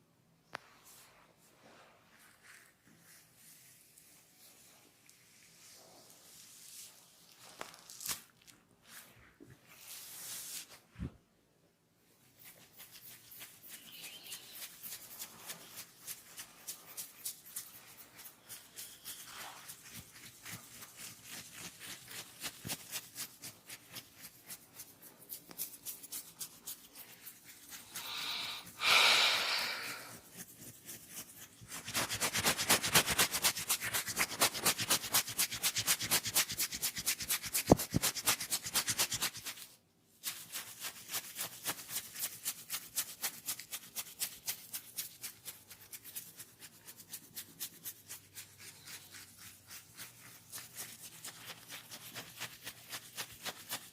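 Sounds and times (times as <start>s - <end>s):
hands rubbing skin and hair: 0.5s - 11.2s, 12.1s - 53.9s.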